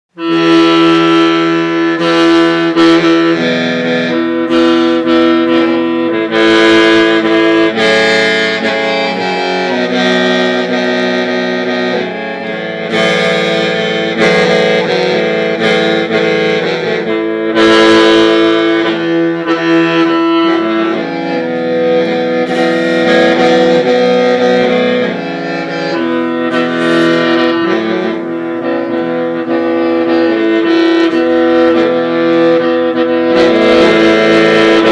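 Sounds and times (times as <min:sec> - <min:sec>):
bamboo mouth organ playing: 0:00.1 - 0:34.9.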